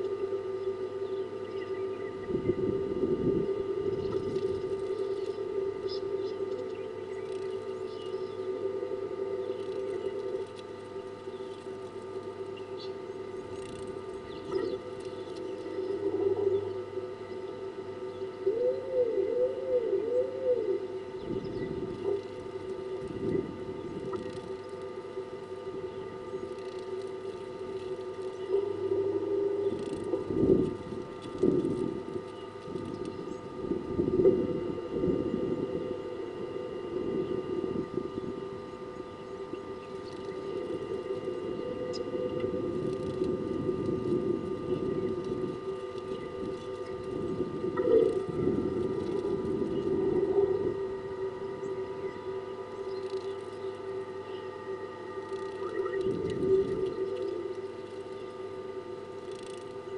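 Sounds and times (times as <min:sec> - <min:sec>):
doves cooing: 0:00.0 - 0:59.9
motor humming: 0:00.0 - 0:59.9.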